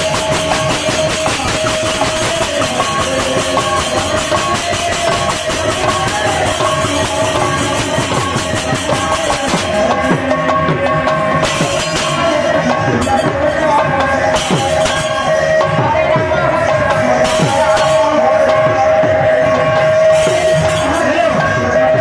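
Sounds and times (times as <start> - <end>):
barrel drum played fast: 0.0 - 22.0
hand cymbals: 0.0 - 22.0.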